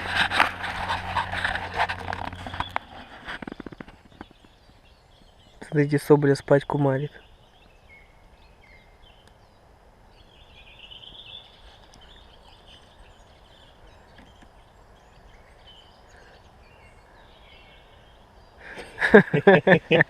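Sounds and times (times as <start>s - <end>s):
low steady background noise: 0.0s - 20.0s
songbirds chirping: 0.0s - 20.0s.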